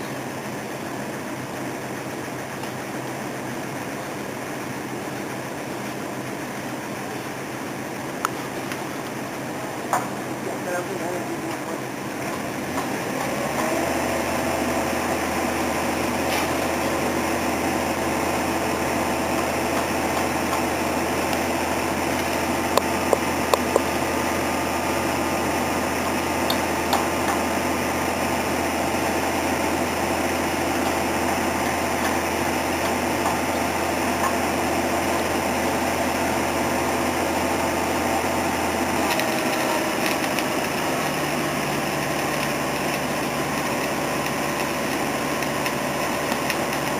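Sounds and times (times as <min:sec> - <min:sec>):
pile-driving rig engine humming: 0:00.0 - 0:46.9.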